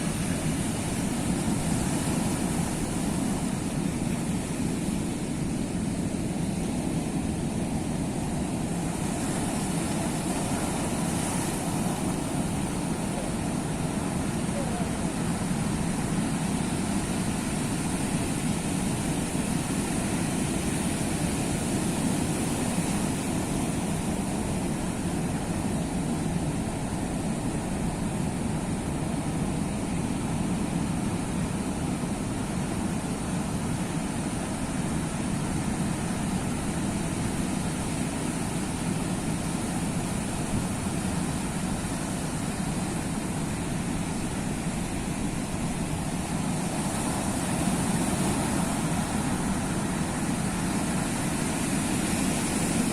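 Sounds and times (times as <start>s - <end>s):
sea surf roaring: 0.0s - 52.9s.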